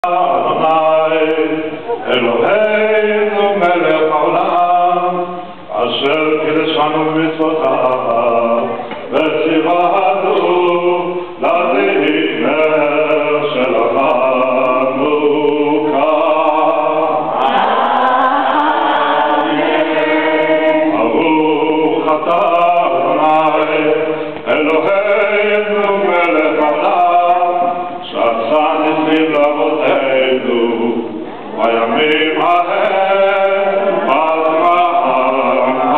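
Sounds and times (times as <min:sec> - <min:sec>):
group of people singing: 0:00.0 - 0:35.9.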